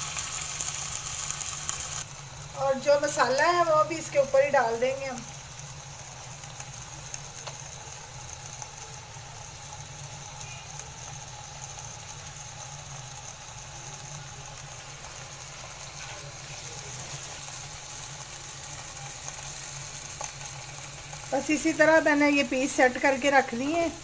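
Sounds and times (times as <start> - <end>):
chicken sizzling in a pan: 0.0 - 24.0.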